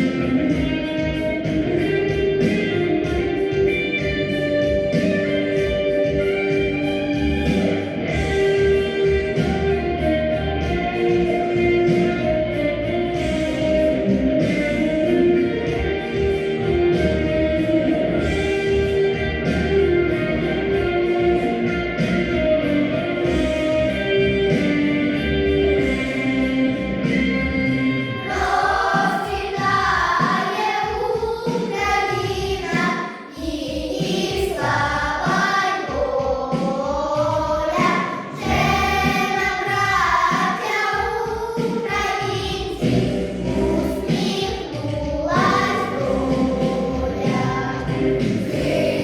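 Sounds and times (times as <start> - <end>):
children's choir singing: 0.0 - 18.6, 28.0 - 49.0
instrumental backing music: 0.0 - 49.0.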